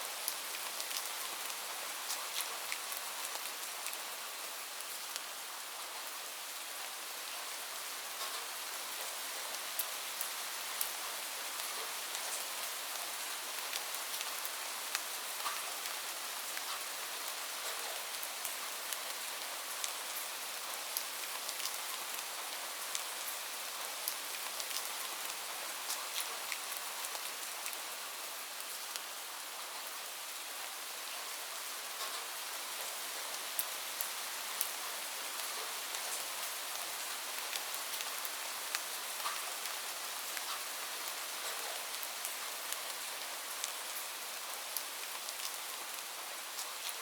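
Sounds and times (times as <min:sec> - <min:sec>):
light rain hiss: 0:00.0 - 0:47.0
raindrops ticking on surfaces: 0:00.2 - 0:06.1, 0:08.0 - 0:29.9, 0:31.6 - 0:47.0.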